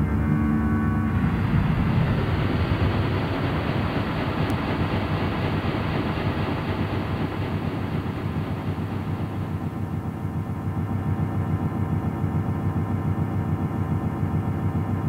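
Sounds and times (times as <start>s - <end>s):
rumbling noise drone: 0.0s - 13.0s.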